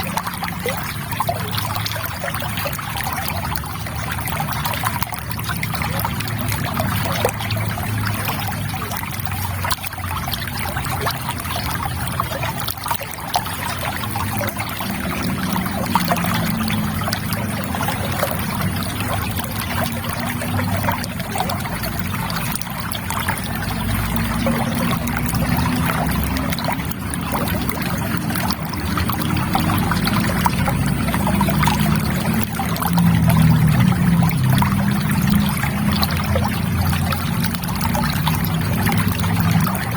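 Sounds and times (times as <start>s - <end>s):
low water gurgle: 0.0s - 39.9s
river water trickling: 0.0s - 39.9s.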